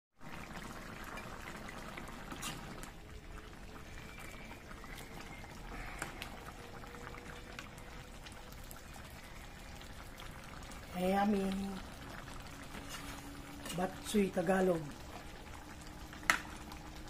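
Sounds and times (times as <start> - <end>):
broth bubbling in a pan: 0.2 - 17.0.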